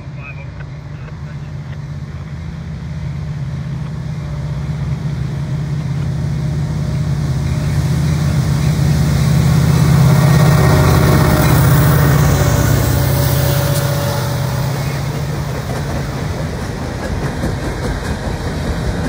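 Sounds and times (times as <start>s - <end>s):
locomotive engine drone: 0.0s - 19.0s
train wheel and rail noise: 0.0s - 19.0s.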